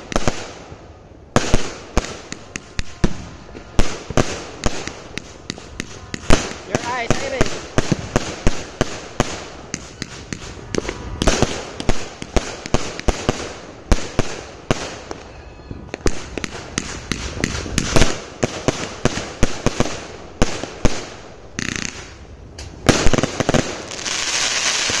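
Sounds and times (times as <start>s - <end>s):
fireworks bangs: 0.0s - 25.0s
hissing crackle of fireworks: 0.0s - 25.0s.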